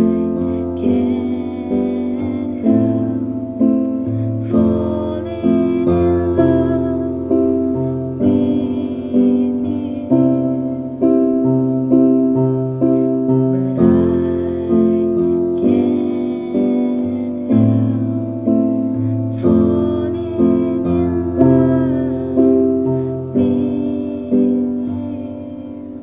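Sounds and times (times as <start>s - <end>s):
calm piano music: 0.0s - 26.0s.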